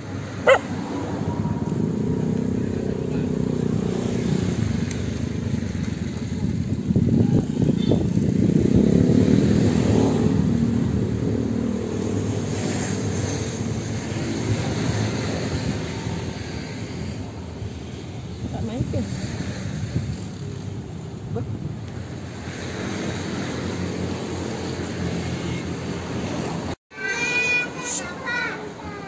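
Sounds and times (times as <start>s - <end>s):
vehicle engine rumbling: 0.0s - 26.8s.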